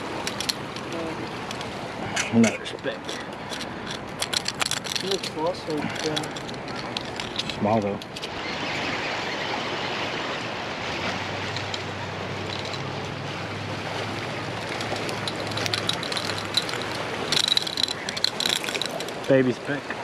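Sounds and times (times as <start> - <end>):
waves washing against boulders: 0.0 - 20.0.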